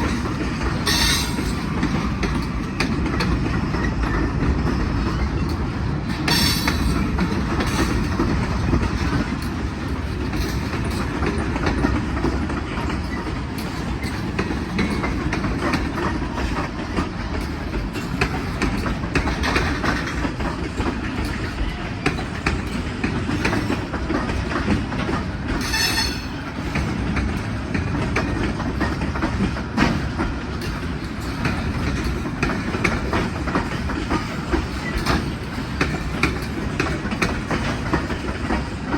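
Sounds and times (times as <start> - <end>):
freight train rolling past: 0.0 - 38.9
wheels clicking over rail joints: 0.0 - 38.9.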